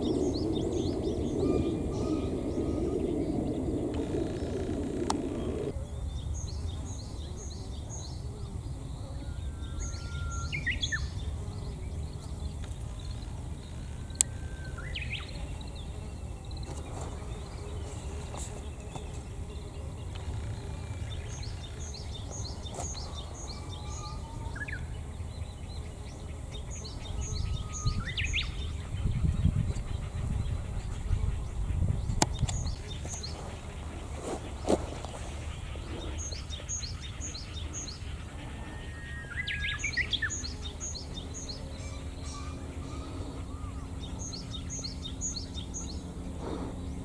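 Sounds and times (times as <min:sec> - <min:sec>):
low background rumble: 0:00.0 - 0:05.8, 0:11.2 - 0:47.0
songbirds singing: 0:00.0 - 0:47.0.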